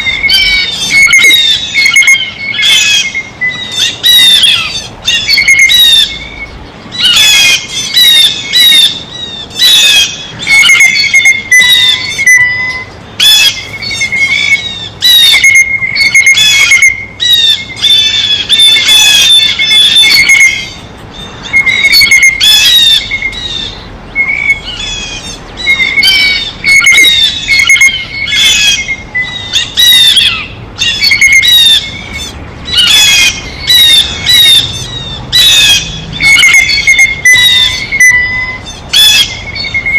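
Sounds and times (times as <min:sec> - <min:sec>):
blue jays calling: 0:00.0 - 0:39.9.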